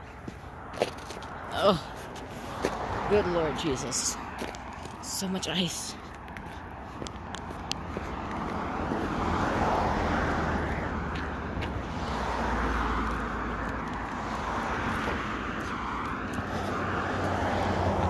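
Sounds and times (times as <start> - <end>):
cars passing on road: 0.0 - 18.0.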